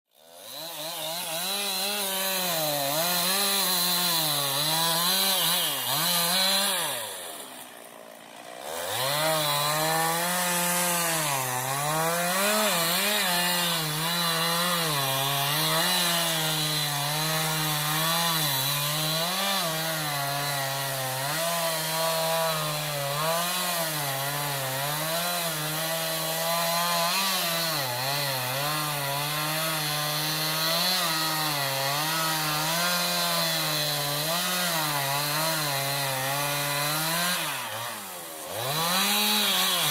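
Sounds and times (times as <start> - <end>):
chainsaw cutting wood: 0.1 - 39.9.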